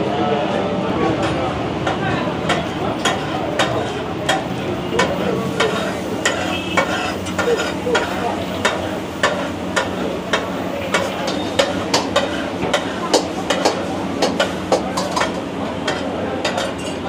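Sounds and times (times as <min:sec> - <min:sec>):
food sizzling: 0:01.8 - 0:17.0
metal spatula scraping griddle: 0:02.5 - 0:17.0.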